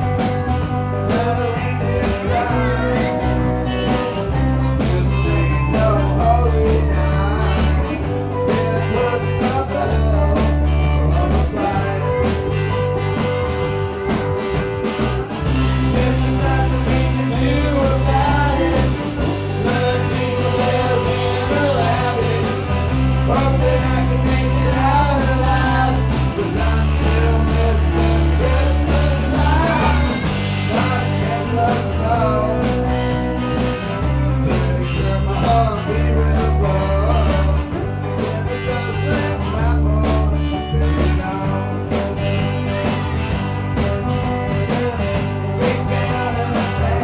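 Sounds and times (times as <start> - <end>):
person singing: 0.0 - 14.6, 15.4 - 42.3, 44.8 - 47.0
rock band playing: 0.0 - 47.0.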